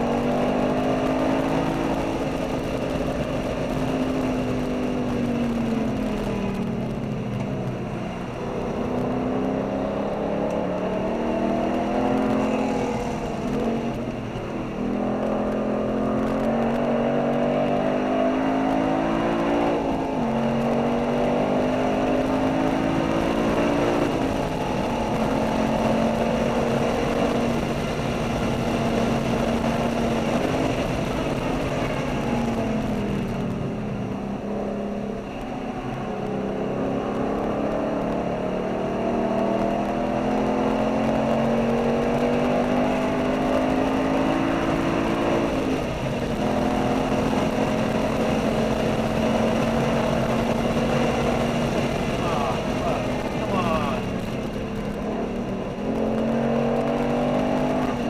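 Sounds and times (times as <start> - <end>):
sports car engine accelerating: 0.0 - 58.0
tyre and wind roar: 0.0 - 58.0.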